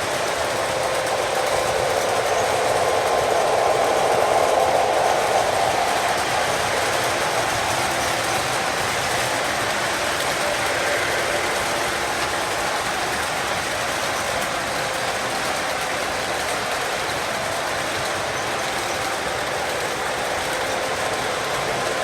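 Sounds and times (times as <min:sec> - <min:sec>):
freight train wagons rolling: 0:00.0 - 0:22.0.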